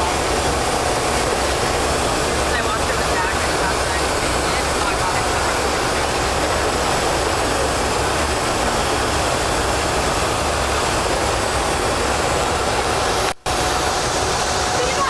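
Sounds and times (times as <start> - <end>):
airplane engine and propeller drone: 0.0 - 15.0.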